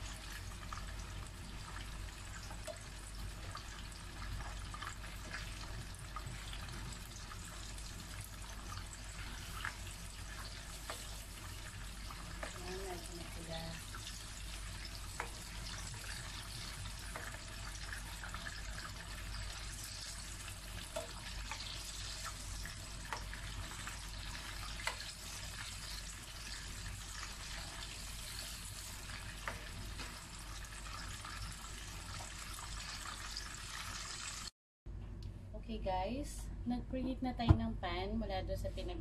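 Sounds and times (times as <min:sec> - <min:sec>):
chicken sizzling in a frying pan: 0:00.0 - 0:34.5.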